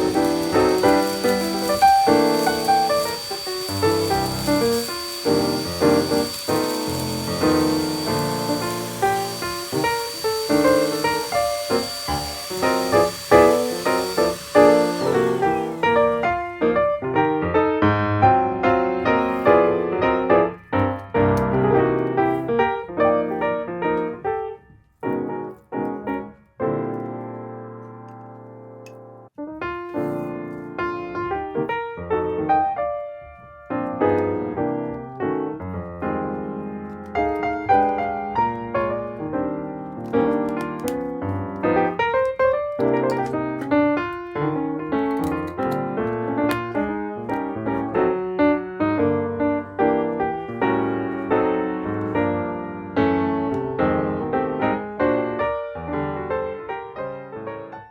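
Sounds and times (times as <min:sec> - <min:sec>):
background piano music: 0:00.0 - 0:09.0, 0:14.9 - 0:57.9.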